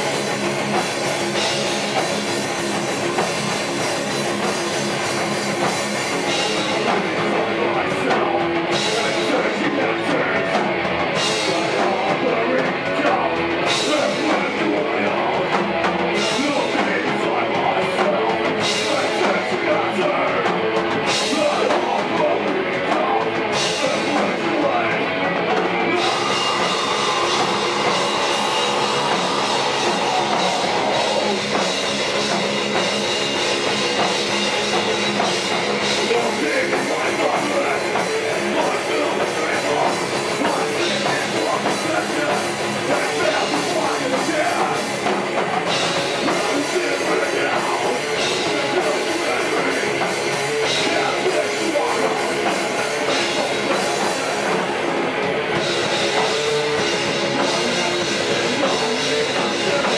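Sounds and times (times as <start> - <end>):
bass guitar: 0.0 - 59.9
distorted electric guitars: 0.0 - 59.9
pounding drum kit: 0.0 - 59.9
vocalist singing or shouting: 5.6 - 59.9.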